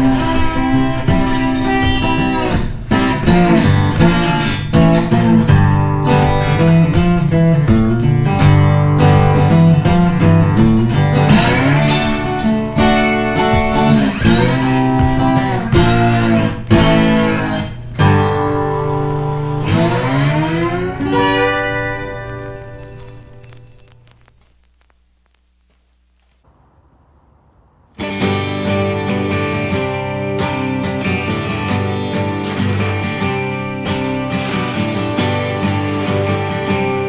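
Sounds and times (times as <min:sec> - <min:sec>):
acoustic guitar piece: 0:00.0 - 0:24.2, 0:26.4 - 0:37.0.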